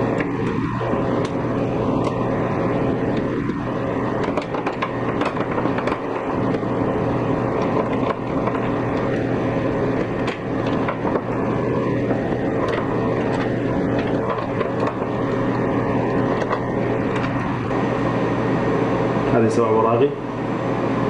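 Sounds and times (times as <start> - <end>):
steady hum and whir: 0.0 - 21.0.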